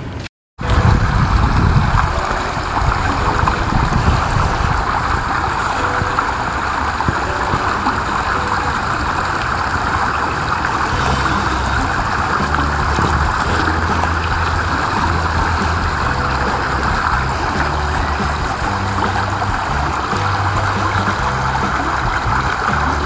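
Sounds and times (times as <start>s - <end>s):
creek water rushing over rocks: 0.6s - 23.0s.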